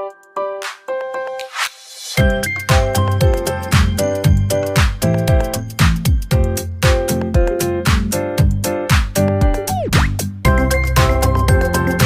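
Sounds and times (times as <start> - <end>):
keyboard chords: 0.0 - 1.5, 2.2 - 12.0
kick drum and bass: 2.2 - 12.0.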